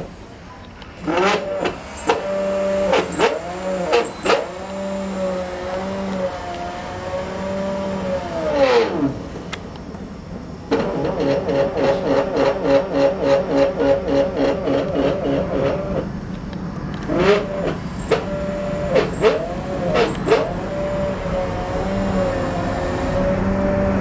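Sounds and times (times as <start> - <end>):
stepper motors whining: 0.0 - 24.0.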